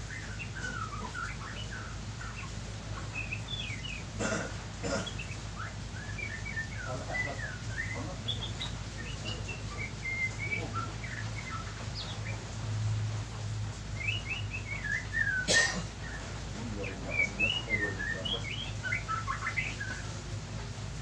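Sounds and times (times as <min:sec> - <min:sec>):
bird chirping whistled notes: 0:00.0 - 0:04.1, 0:05.2 - 0:12.4, 0:13.9 - 0:20.2
steady low hum: 0:00.0 - 0:21.0.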